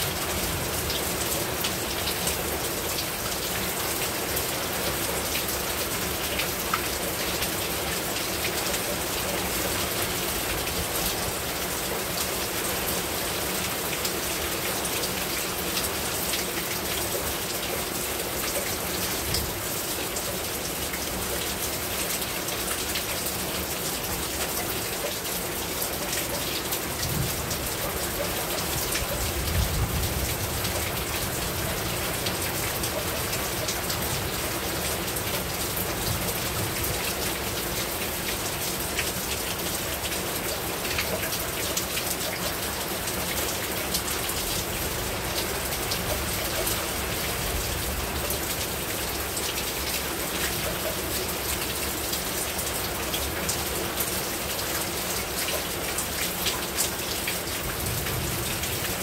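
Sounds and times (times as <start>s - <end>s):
heavy rain on a rooftop: 0.0s - 59.0s.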